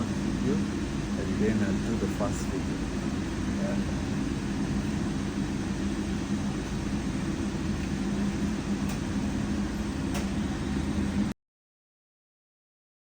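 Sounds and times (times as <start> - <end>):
low mechanical hum: 0.0 - 11.4.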